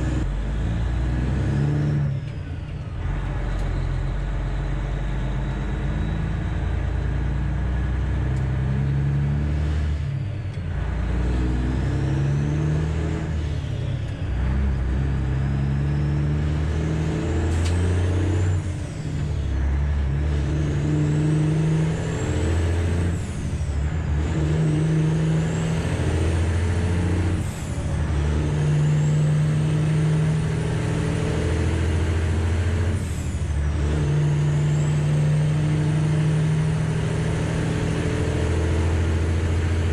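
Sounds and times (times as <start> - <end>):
diesel truck exhaust: 0.0 - 39.9.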